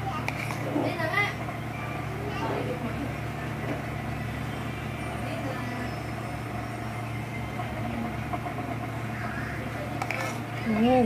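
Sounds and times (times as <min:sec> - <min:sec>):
even background noise: 0:00.0 - 0:11.0
low background hum: 0:00.0 - 0:11.0.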